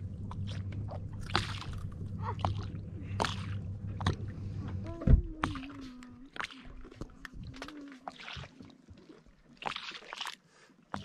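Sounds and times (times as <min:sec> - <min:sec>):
low steady hum: 0:00.0 - 0:09.8
water sloshing against boat hull: 0:00.0 - 0:11.0.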